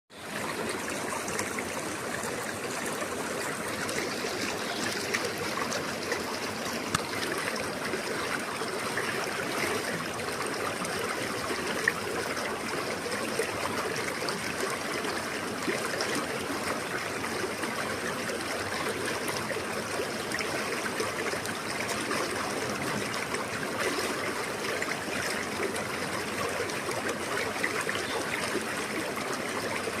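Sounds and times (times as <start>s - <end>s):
river water rushing and babbling: 0.1s - 30.0s
small water splashes: 0.2s - 30.0s.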